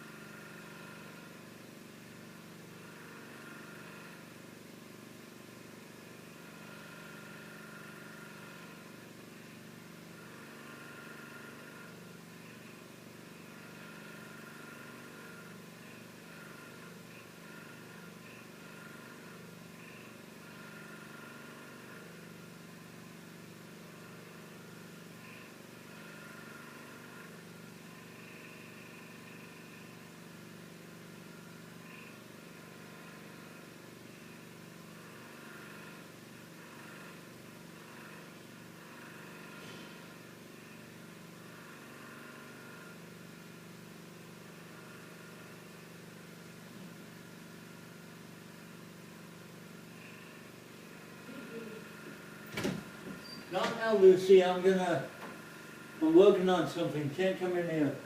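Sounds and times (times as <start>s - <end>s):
faint background hum: 0.0s - 58.0s.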